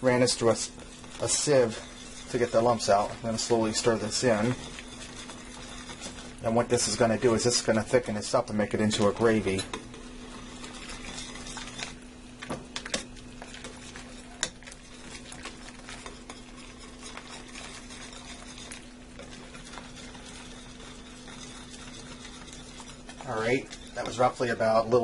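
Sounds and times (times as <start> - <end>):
spoon stirring in skillet: 0.0 - 25.0
steady low hum: 0.0 - 25.0.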